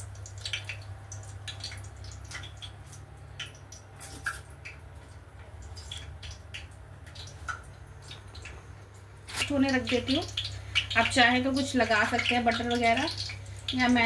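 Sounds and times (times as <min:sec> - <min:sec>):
food frying in oil: 0:00.0 - 0:14.0
low steady hum: 0:00.0 - 0:14.0.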